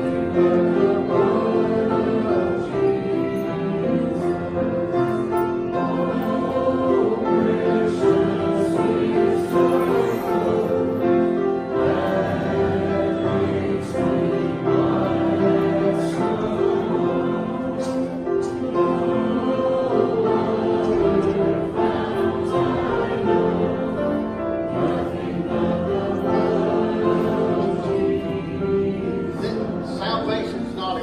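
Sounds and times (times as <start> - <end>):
congregation singing a hymn: 0.0 - 31.0.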